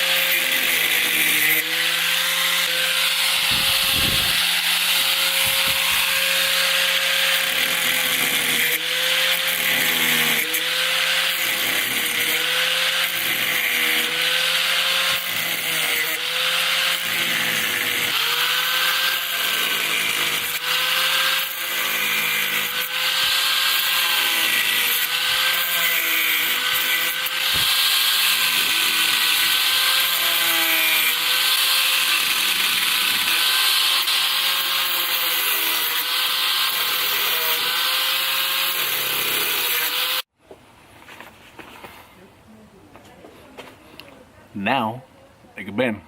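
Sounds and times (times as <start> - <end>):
power tool cutting plastic: 0.0 - 40.3.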